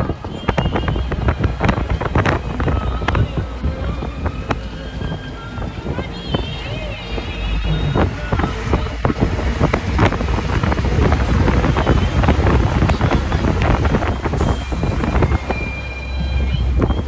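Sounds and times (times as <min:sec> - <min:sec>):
vehicle road noise rumble: 0:00.0 - 0:17.0
wind buffeting microphone: 0:00.0 - 0:17.0.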